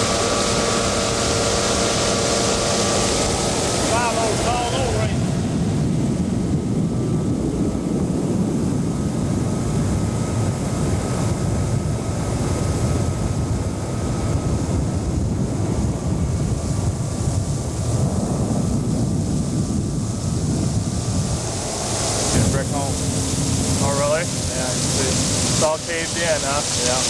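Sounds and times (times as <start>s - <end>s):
boat motor running: 0.0s - 27.0s
wind noise on microphone: 0.0s - 27.0s.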